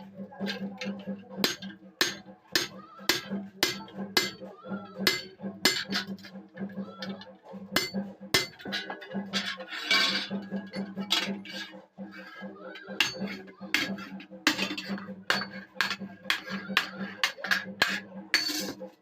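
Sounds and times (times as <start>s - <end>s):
hammer striking iron on anvil: 0.4s - 4.4s, 5.0s - 7.1s, 7.7s - 11.4s, 13.0s - 18.8s.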